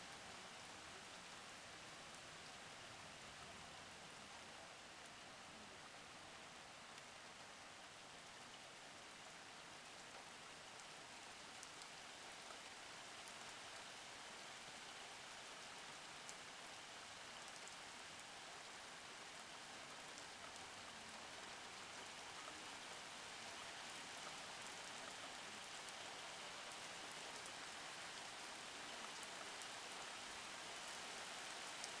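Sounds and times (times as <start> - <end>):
light rain falling: 0.0 - 32.0.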